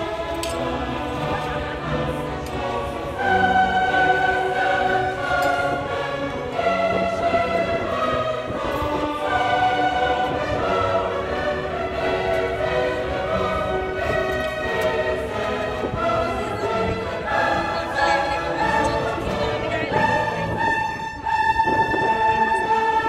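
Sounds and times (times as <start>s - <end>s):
musical accompaniment: 0.0s - 23.0s
slow melody of held sung notes: 0.0s - 23.0s.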